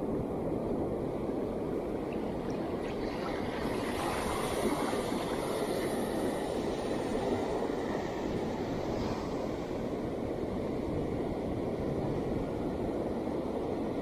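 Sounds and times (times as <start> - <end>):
wind rumbling on microphone: 0.0 - 14.0
ocean surf breaking on beach: 0.8 - 14.0.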